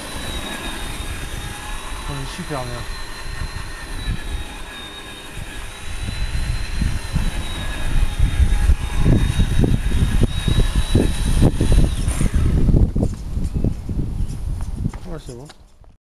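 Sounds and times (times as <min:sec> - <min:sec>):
rc truck motor whine: 0:00.0 - 0:14.3.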